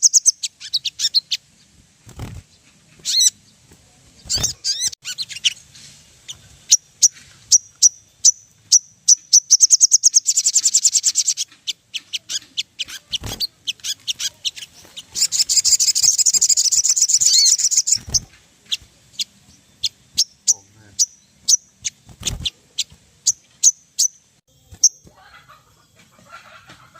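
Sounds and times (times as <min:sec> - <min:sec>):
bird chirping and trilling: 0:00.0 - 0:26.6.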